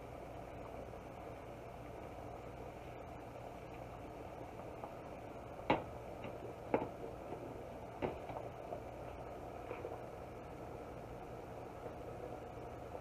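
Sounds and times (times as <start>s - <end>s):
water bubbling at boil: 0.0s - 13.0s.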